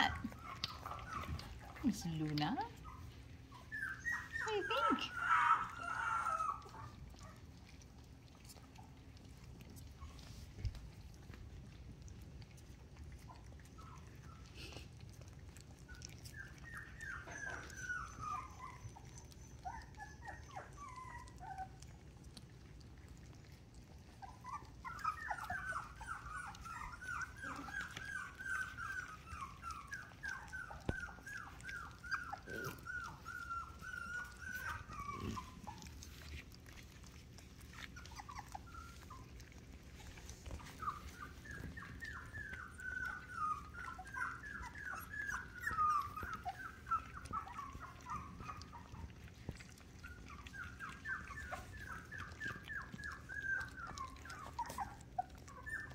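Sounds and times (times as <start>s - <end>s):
puppies whimpering: 0.0s - 55.9s.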